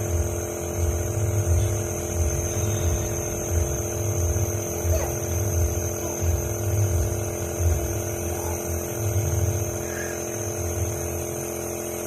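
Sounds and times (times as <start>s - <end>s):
nebulizer motor humming: 0.0s - 12.0s.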